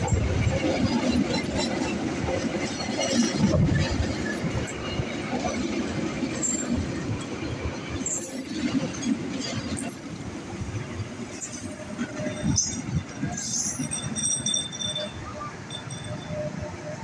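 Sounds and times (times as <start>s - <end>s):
train wheels rumbling and rattling: 0.0s - 17.0s.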